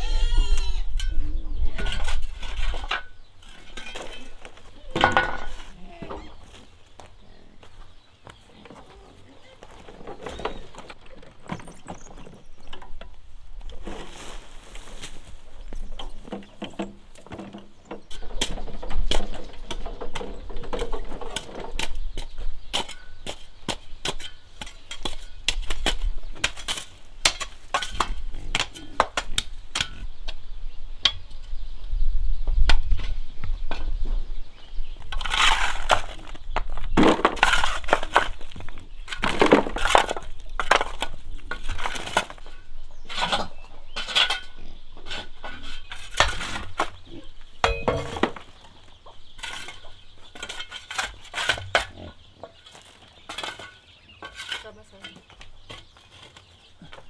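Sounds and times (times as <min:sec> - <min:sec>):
scraping and rustling: 0:01.0 - 0:29.0, 0:35.0 - 0:57.0.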